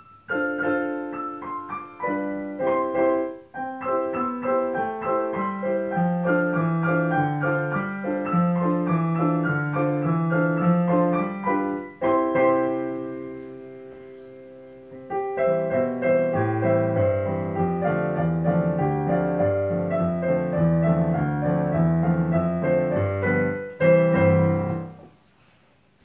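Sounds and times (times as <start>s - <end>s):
piano duet: 0.0s - 26.0s.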